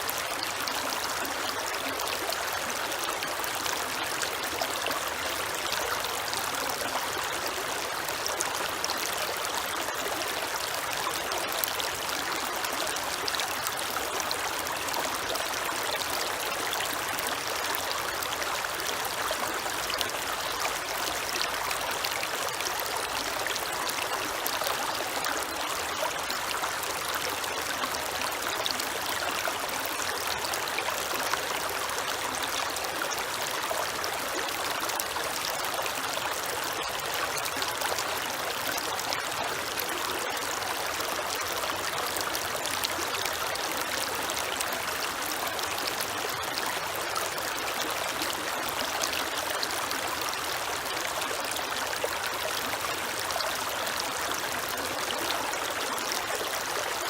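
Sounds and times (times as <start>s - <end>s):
creek water burbling over stones: 0.0s - 57.0s.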